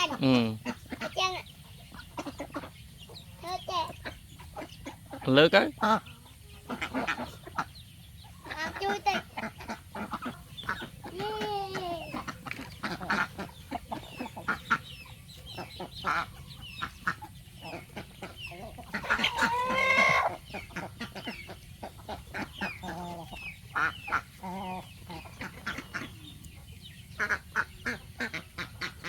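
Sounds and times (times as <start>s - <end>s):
poultry clucking: 0.0s - 29.0s.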